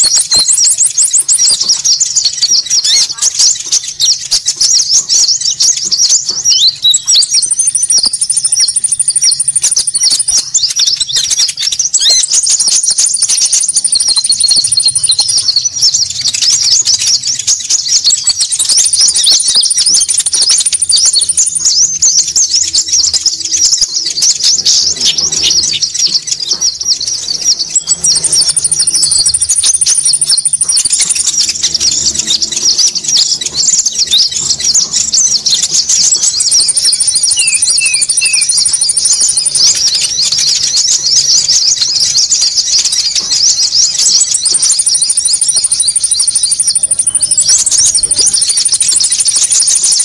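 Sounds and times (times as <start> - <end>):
birds twittering chorus: 0.0 - 50.0
very high rapid bird trill: 0.0 - 50.0.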